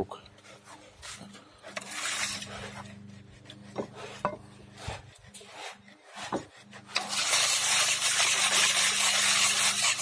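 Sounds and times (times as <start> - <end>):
rasping rub on wood: 0.4 - 10.0.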